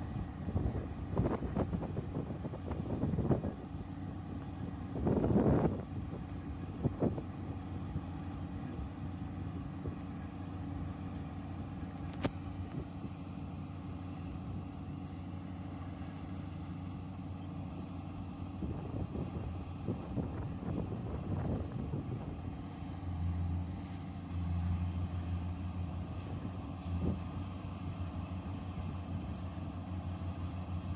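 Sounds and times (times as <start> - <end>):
combine harvester engine hum: 0.0 - 30.9.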